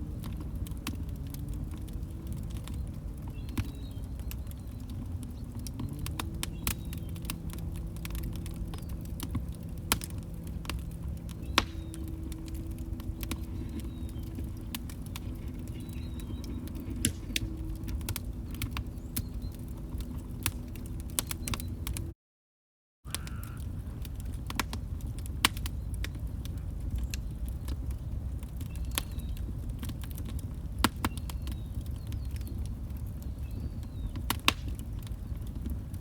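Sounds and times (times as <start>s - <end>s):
fire popping: 0.0s - 22.1s, 23.1s - 36.0s
log fire crackling: 0.0s - 22.1s, 23.1s - 36.0s.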